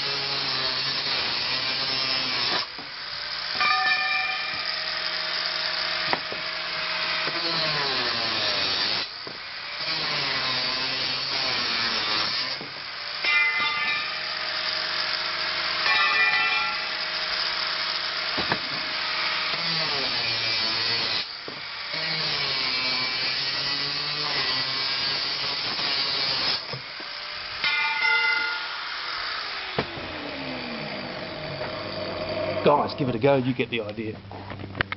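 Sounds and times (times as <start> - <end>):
angle grinder cutting metal: 0.0 - 33.5.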